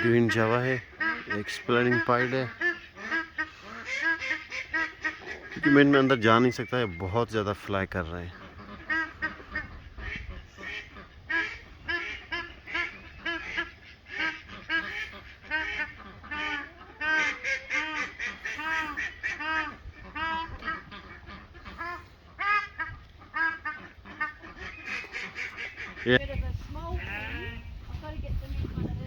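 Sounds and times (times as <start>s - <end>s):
fowl honking calls: 0.0s - 28.0s.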